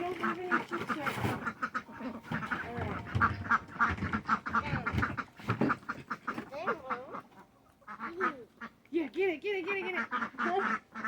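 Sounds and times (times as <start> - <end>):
ducks quacking: 0.0 - 8.8, 9.6 - 11.0
gliding duck calls: 0.2 - 8.8, 9.8 - 11.0.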